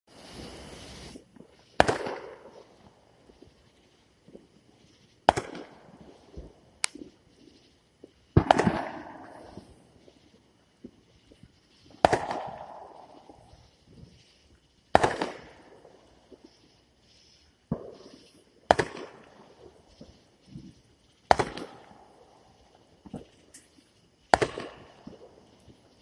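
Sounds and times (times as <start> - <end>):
fireworks bangs: 0.1 - 26.0.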